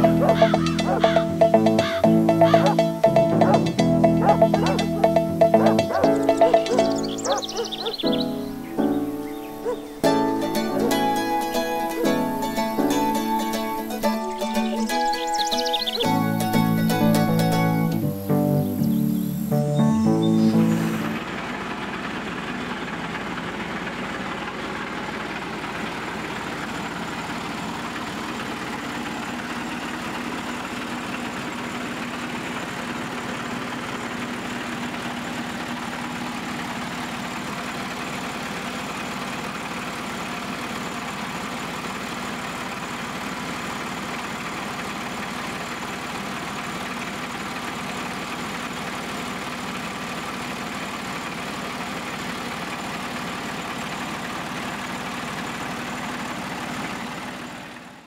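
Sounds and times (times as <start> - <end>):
dozer engine idling: 0.0 - 58.0.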